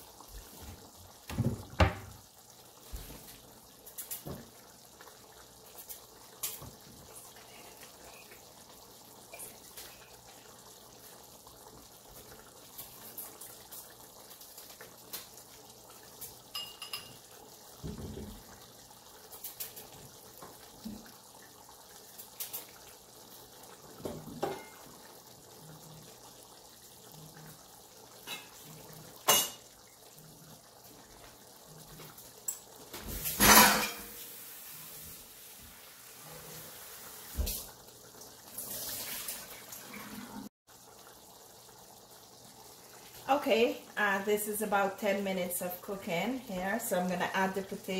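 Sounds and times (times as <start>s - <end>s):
curry bubbling in a pot: 0.0s - 47.9s.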